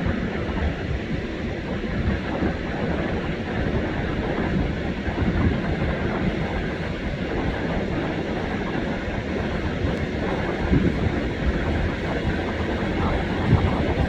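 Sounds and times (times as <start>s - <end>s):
helicopter rotor and engine rumble: 2.2s - 14.0s.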